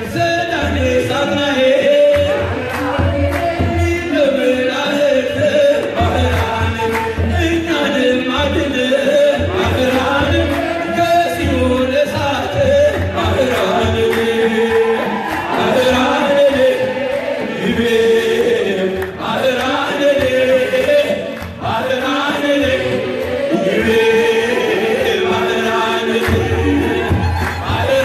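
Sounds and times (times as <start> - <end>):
men singing a hymn together: 0.0 - 28.0.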